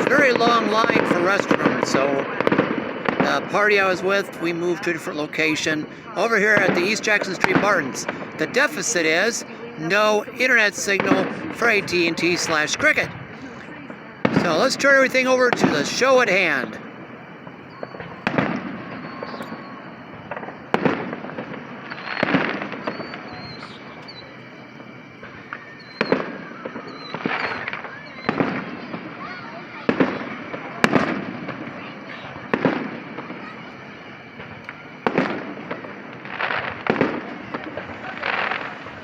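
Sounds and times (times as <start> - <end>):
fireworks bursting bangs: 0.0 - 39.0.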